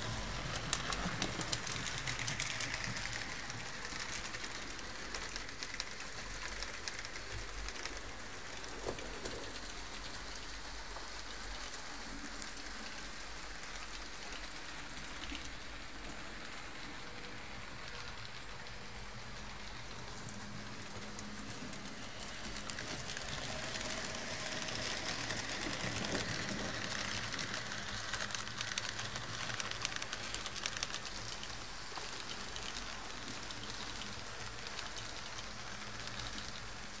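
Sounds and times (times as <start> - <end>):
model train rattling on track: 0.0 - 37.0.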